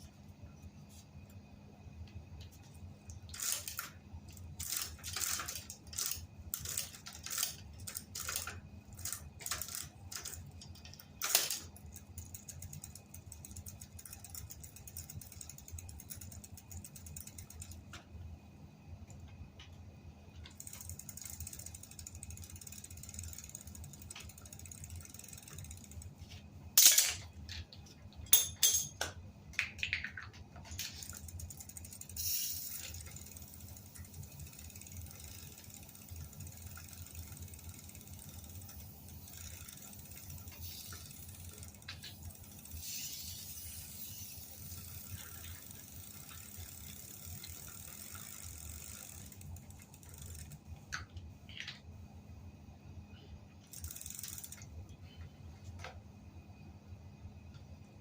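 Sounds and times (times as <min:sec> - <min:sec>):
steady low hum: 0:00.0 - 0:58.0
bicycle clicks and knocks: 0:02.1 - 0:18.1, 0:20.4 - 0:51.9, 0:53.7 - 0:54.8.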